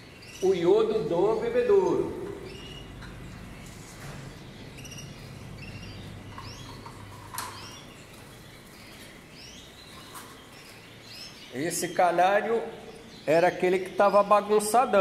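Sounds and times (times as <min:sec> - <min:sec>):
canaries chirping: 0:00.0 - 0:15.0.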